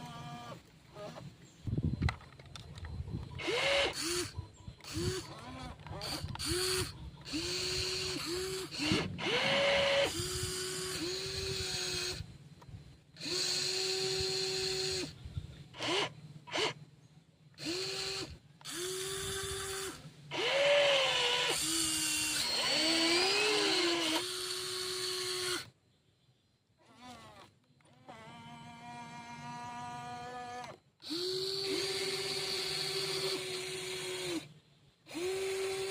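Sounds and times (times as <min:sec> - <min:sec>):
small electric motors whirring: 0:00.0 - 0:16.8, 0:17.5 - 0:25.8, 0:26.8 - 0:35.9.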